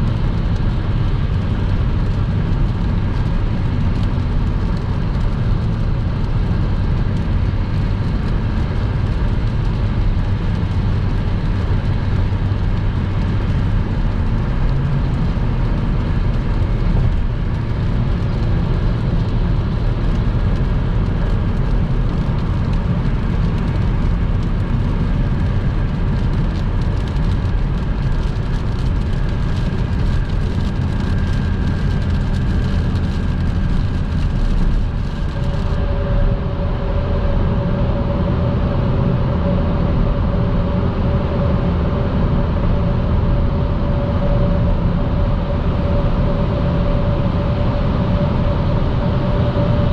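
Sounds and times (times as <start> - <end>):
car driving on wet road: 0.0 - 49.9.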